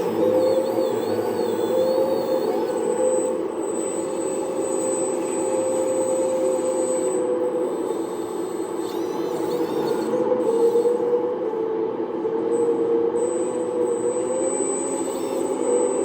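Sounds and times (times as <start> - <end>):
toy motor hum with high whine: 0.0 - 11.2, 13.2 - 16.0.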